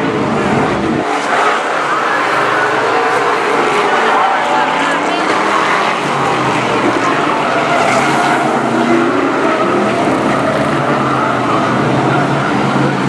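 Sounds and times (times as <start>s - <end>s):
stock car engines racing: 0.0s - 13.0s.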